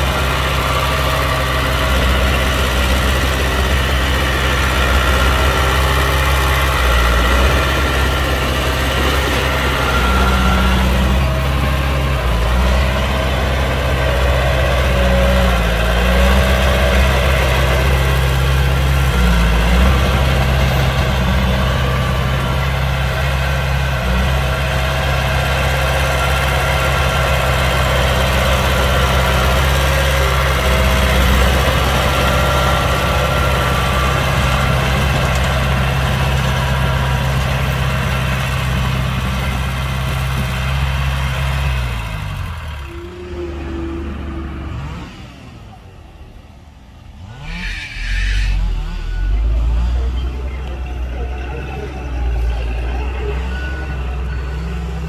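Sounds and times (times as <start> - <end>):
heavy diesel engine idling: 0.0 - 47.3, 48.4 - 55.0.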